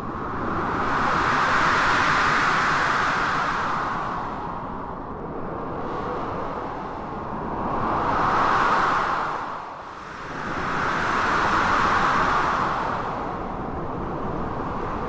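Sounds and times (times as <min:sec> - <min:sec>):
blizzard wind: 0:00.0 - 0:15.0.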